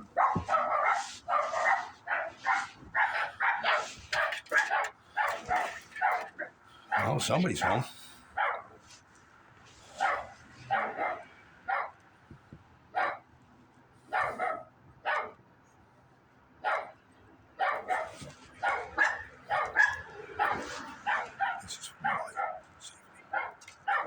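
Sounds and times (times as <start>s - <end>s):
dogs barking: 0.0s - 8.8s, 9.9s - 12.0s, 12.9s - 13.3s, 14.0s - 15.4s, 16.6s - 24.0s.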